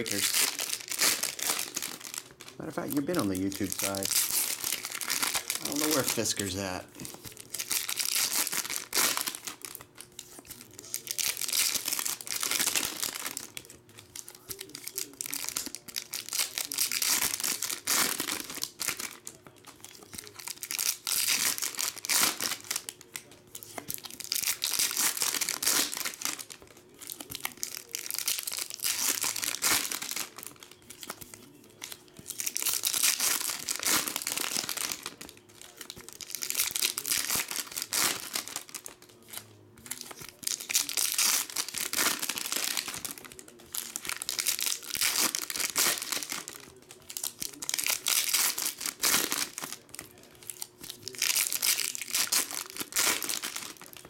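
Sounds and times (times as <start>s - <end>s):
foil packs tearing and crinkling: 0.0s - 54.0s.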